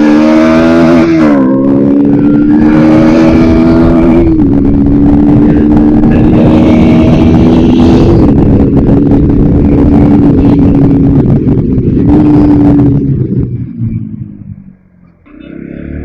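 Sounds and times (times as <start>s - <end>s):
motorcycle engine running hard: 0.0s - 16.0s.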